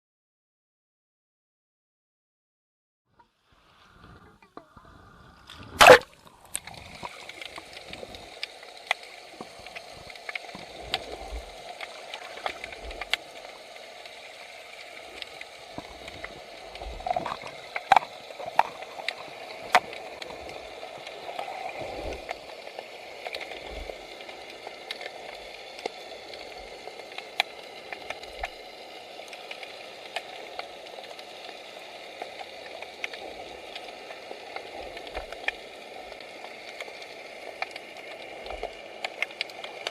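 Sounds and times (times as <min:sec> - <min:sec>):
watery hiss: 0:03.2 - 0:39.9
sharp underwater clicks: 0:05.4 - 0:39.9.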